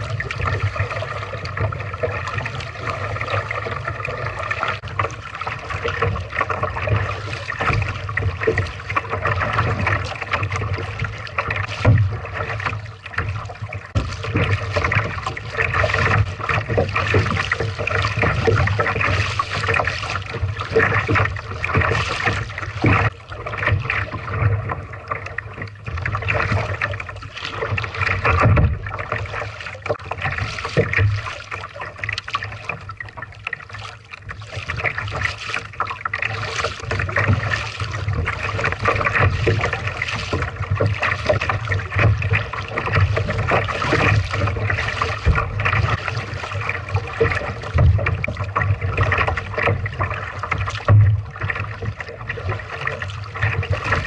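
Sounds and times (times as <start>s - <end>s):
paddle strokes splashing: 0.0s - 54.0s
water lapping against kayak hull: 0.0s - 54.0s.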